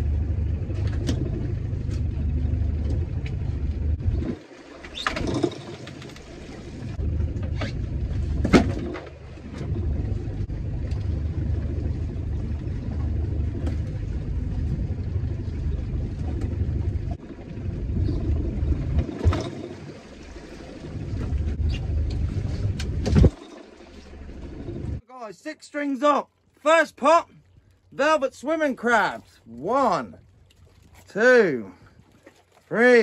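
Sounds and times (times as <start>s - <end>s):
boat engine running: 0.0s - 25.0s, 26.8s - 33.0s.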